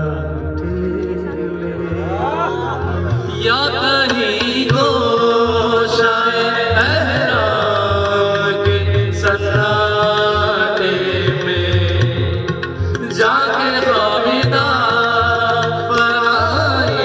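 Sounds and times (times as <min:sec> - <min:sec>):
men singing: 0:00.0 - 0:17.0.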